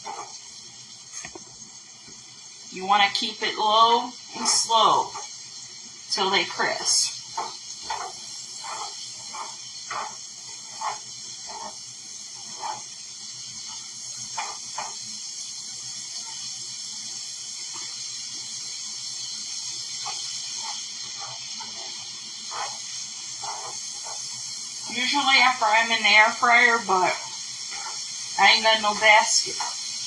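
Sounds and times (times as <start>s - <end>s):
nuts sizzling in a pan: 0.0s - 30.0s.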